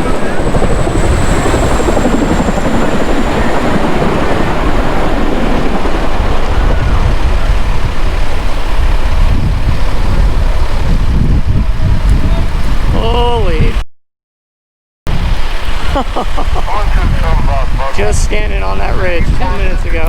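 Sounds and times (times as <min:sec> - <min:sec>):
wind buffeting microphone: 0:00.0 - 0:13.8, 0:15.1 - 0:20.0.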